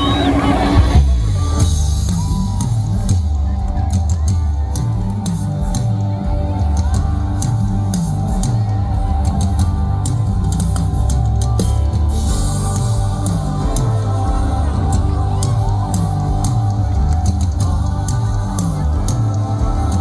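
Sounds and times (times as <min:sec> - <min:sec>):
bass line: 0:00.0 - 0:20.0
drum kit with cymbal strokes: 0:00.0 - 0:20.0.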